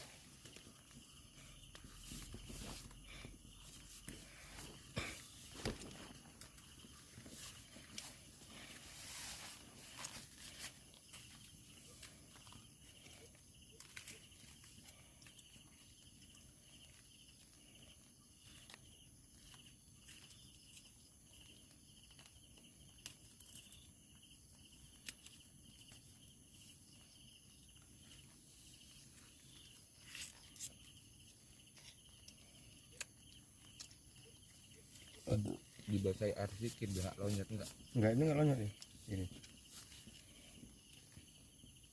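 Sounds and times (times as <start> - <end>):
insects chirping: 0.0 - 41.9.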